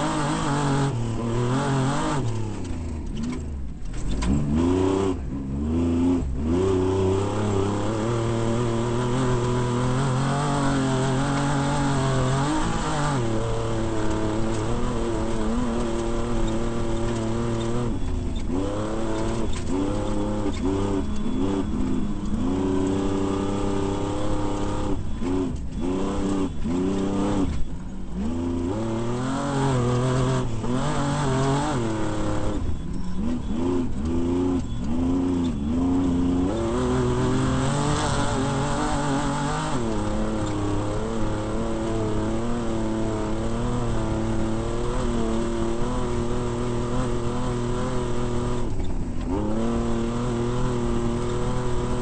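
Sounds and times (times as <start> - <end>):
race vehicle engine revving: 0.0 - 52.0.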